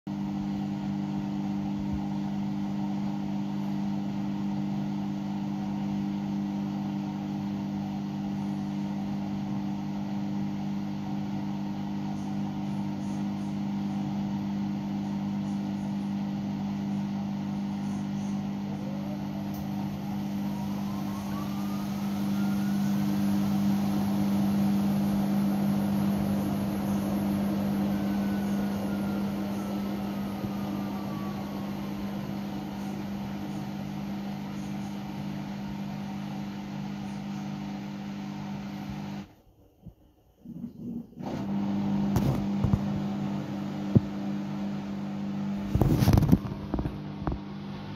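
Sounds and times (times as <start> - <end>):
washing machine drum spin whine: 0.1 - 40.0, 41.1 - 47.9
washing machine motor hum: 0.1 - 47.9.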